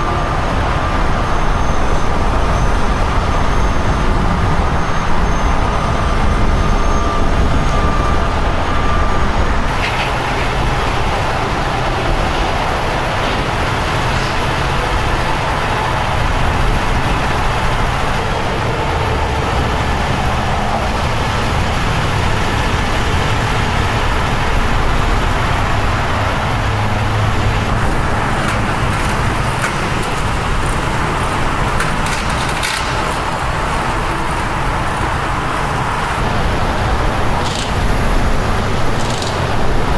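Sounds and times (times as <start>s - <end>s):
freeway traffic rumble: 0.0s - 39.9s.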